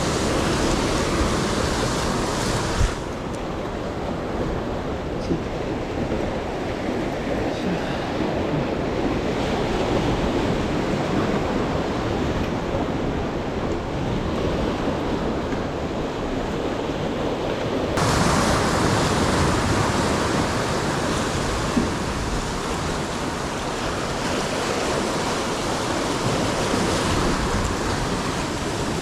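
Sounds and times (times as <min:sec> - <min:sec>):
rough sea surf: 0:00.0 - 0:29.0
strong wind buffeting microphone: 0:00.0 - 0:29.0.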